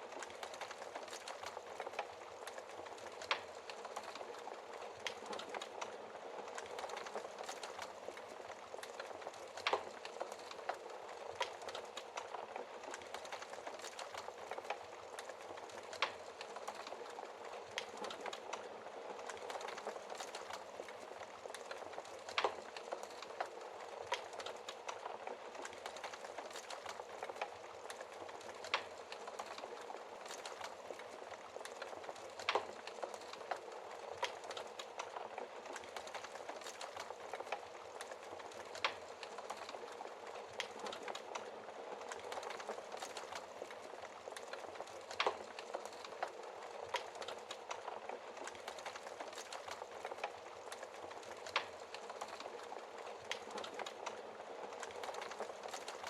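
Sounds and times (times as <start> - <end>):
small fire crackles: 0.0 - 56.0
soft hiss of burning wood: 0.0 - 56.0.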